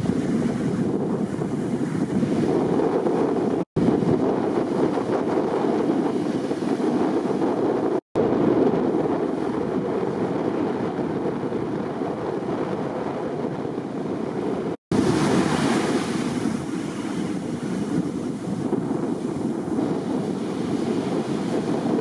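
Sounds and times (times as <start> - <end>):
rough sea surf breaking: 0.0 - 22.0
wind buffeting microphone: 0.0 - 22.0.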